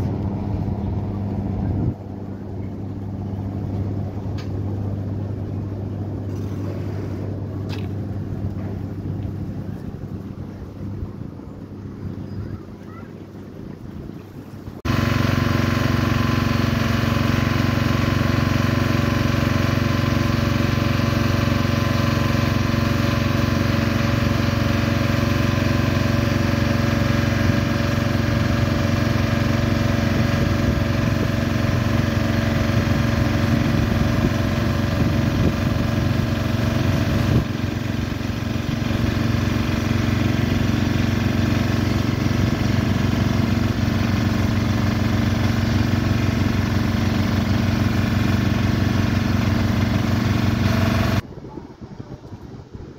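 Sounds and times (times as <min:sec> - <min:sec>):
boat engine running: 0:00.0 - 0:52.9.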